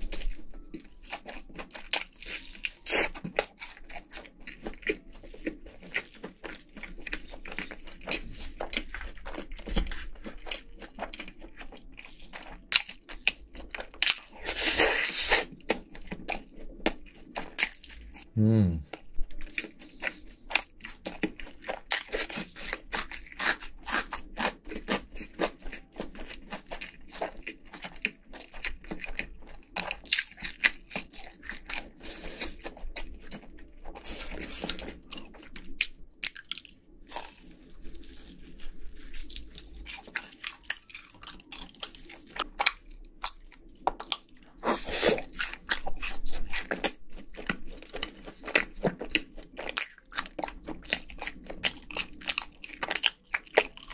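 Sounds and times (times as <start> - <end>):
crunching and chewing fried chicken: 0.0 - 53.9.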